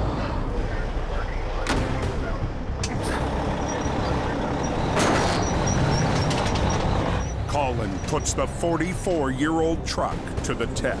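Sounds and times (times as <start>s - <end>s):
heavy diesel truck engines: 0.0s - 9.9s.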